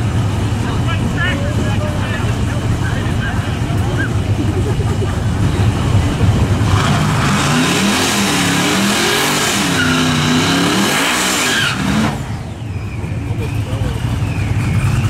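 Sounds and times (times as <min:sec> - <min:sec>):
pickup truck engines revving: 0:00.0 - 0:15.0.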